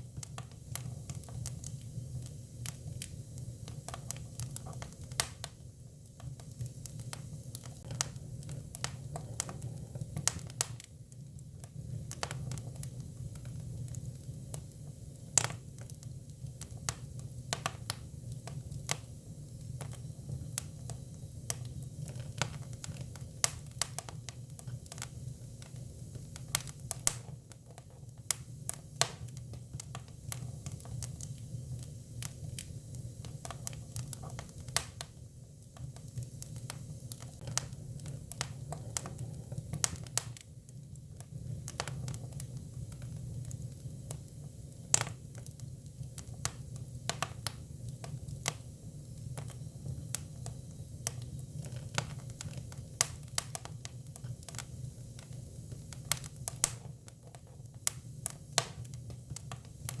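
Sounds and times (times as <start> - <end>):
firewood crackling and popping: 0.0 - 60.0.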